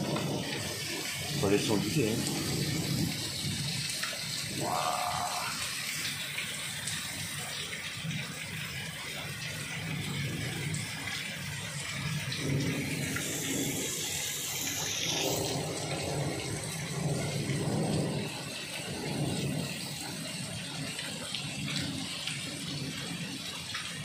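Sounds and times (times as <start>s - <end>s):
floodwater rushing: 0.0s - 24.0s
heavy rain falling: 0.0s - 24.0s.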